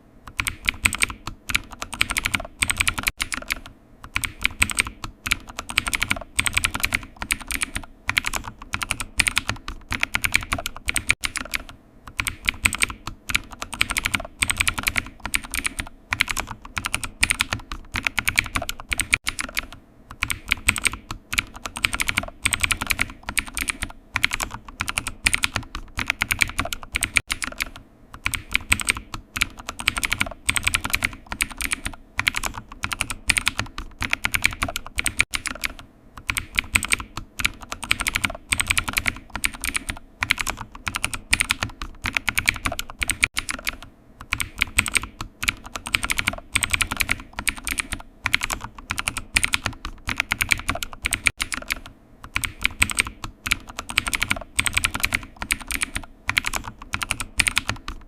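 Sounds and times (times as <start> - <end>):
computer keyboard typing: 0.3 - 58.0.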